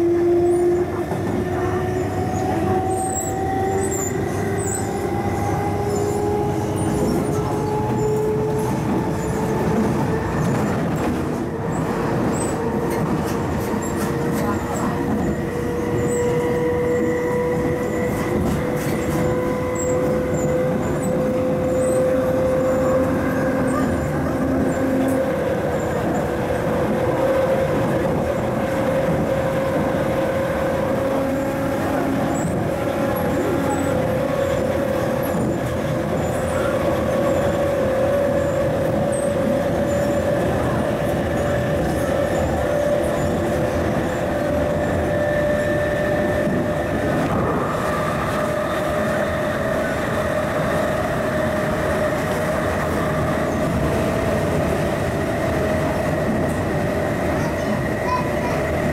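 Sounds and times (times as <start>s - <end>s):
train motor whine: 0.0s - 58.9s
train rail and running noise: 0.0s - 58.9s.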